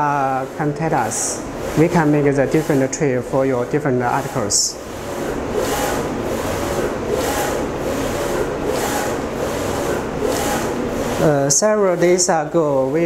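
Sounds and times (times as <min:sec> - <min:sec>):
printer carriage whirring: 0:00.0 - 0:13.0.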